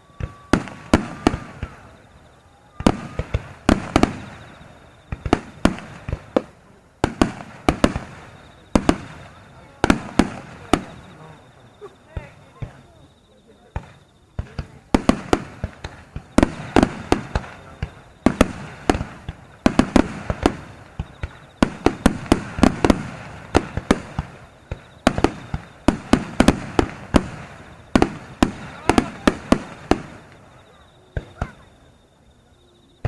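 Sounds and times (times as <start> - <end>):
firework booms with echo: 0.1 - 11.5, 13.8 - 31.7.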